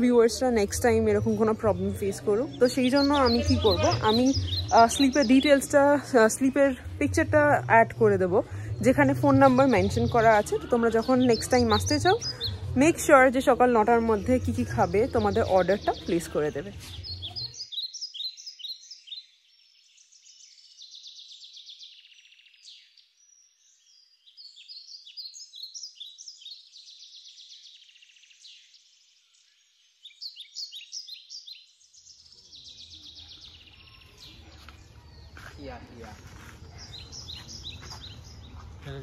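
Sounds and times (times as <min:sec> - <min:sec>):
birds chirping and trilling: 0:00.0 - 0:39.0.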